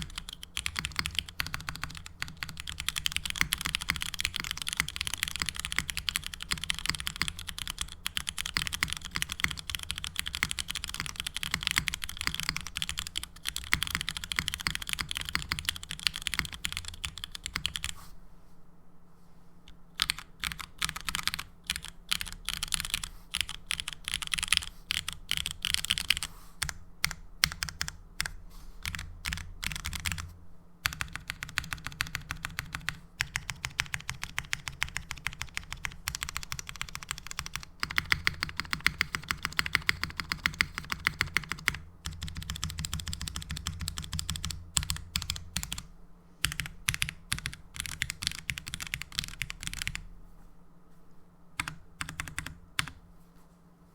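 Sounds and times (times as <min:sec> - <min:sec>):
mechanical keyboard typing: 0:00.0 - 0:18.0, 0:19.7 - 0:50.0, 0:51.6 - 0:53.0.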